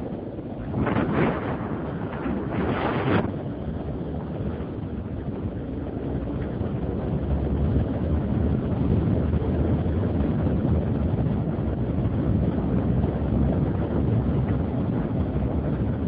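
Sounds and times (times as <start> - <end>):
motorcycle running noise: 0.0 - 16.0
wind rushing over microphone: 0.0 - 16.0.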